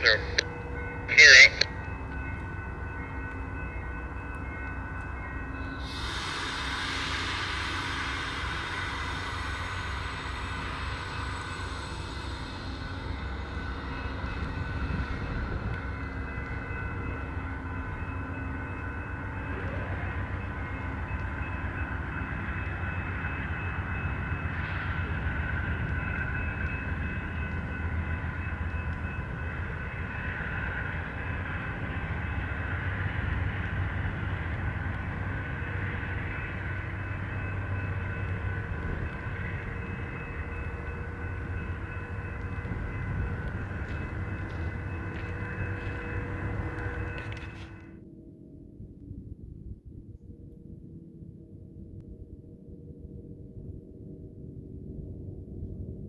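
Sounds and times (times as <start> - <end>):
diesel locomotive rumbling: 0.0 - 48.0.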